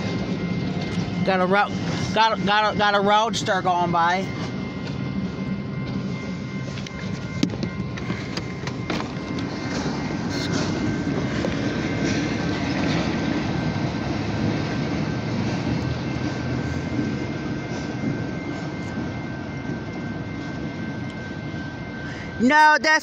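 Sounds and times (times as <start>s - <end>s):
diesel locomotive low rumble: 0.0s - 23.0s.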